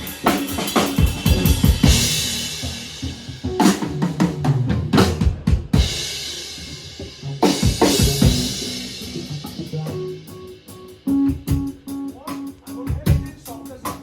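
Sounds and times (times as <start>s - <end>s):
drum kit playing: 0.0s - 14.0s
bass guitar notes: 1.0s - 13.6s.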